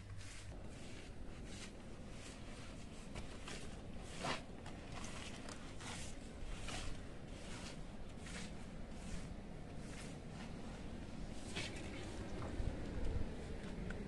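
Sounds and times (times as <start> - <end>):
brush sweeping wet ground: 0.0 - 13.9.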